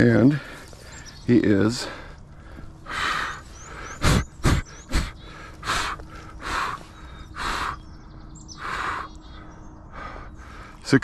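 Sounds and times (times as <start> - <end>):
small birds chirping: 0.0 - 11.0
person breathing heavily: 0.2 - 10.9.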